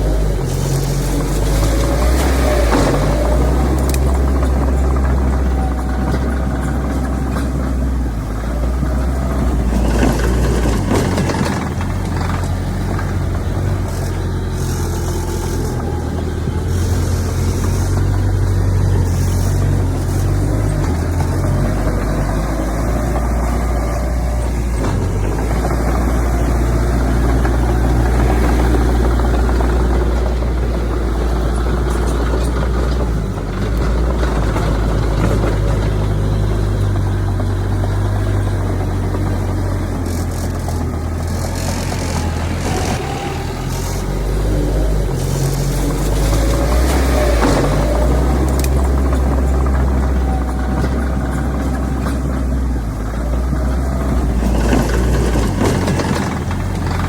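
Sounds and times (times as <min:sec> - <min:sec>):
heavy diesel machinery rumbling: 0:00.0 - 0:57.0.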